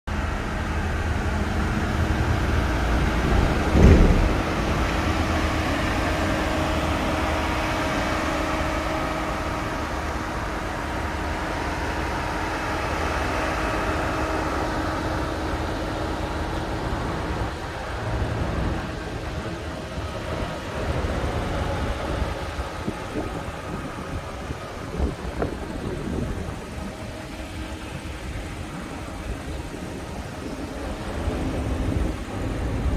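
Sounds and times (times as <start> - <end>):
car engine idling: 0.1 - 32.9.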